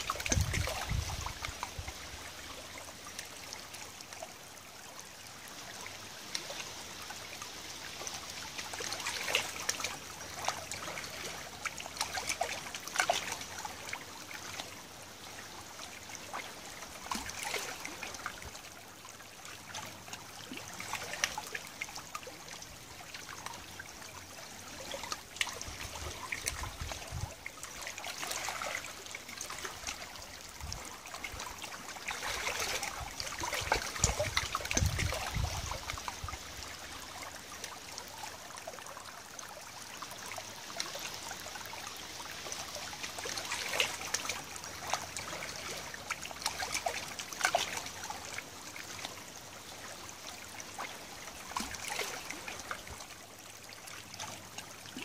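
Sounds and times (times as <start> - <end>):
river water trickling and lapping: 0.0 - 55.0
small drips and splashes: 0.0 - 55.0.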